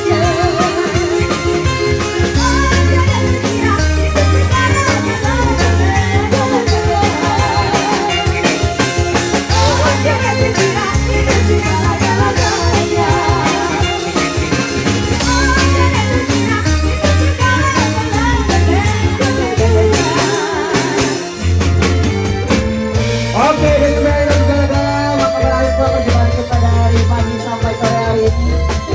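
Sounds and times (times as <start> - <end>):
heavy bass beat and drums: 0.0 - 28.9.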